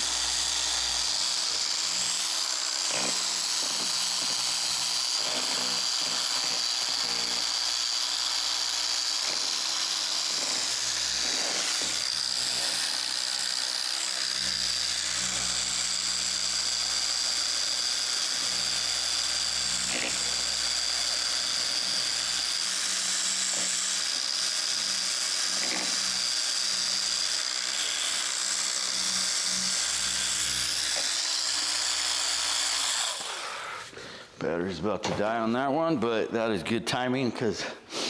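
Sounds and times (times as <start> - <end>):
car polisher whining: 0.0 - 34.0.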